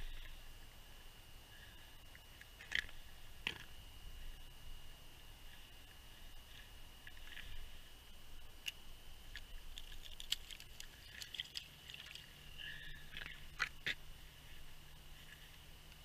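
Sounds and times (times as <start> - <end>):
faint high whine: 0.0 - 16.0.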